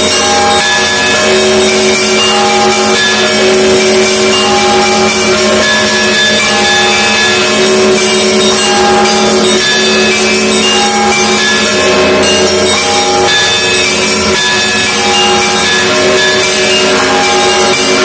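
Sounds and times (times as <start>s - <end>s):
church bells ringing a peal: 0.0s - 18.0s
steady low bell tone: 0.0s - 18.0s.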